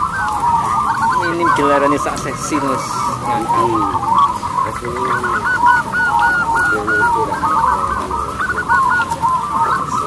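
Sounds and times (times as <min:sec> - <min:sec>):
doves cooing in chorus: 0:00.0 - 0:10.0.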